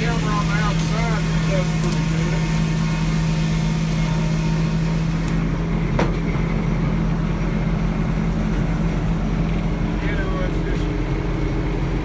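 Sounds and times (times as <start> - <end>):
sawmill engine drone: 0.0 - 12.0.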